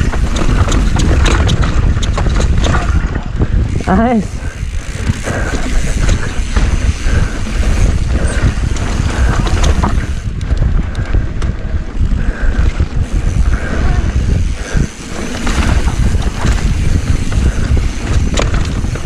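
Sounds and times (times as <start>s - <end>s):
bike clicking and knocking on rock: 0.0s - 19.0s
tyre rumble: 0.0s - 19.0s
wind buffeting microphone: 0.0s - 19.0s.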